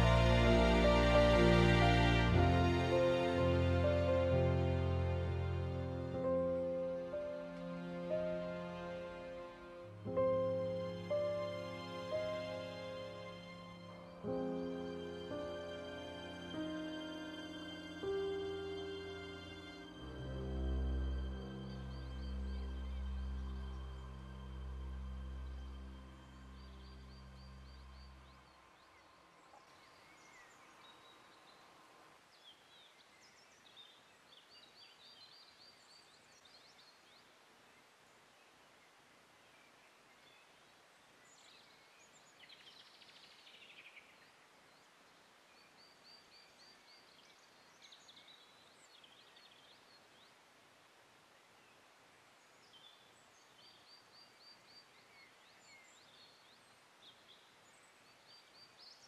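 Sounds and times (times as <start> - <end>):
background hiss: 0.0 - 59.0.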